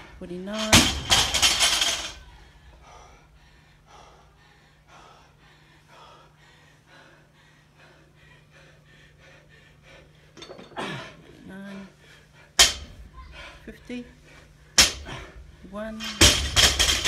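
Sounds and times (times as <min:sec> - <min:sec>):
steady low hum: 0:00.0 - 0:17.0
man breathing hard: 0:01.3 - 0:15.7.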